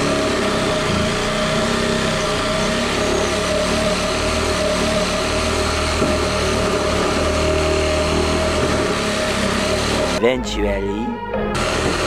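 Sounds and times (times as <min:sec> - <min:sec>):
reciprocating saw cutting wood: 0:00.0 - 0:10.2, 0:11.6 - 0:12.0.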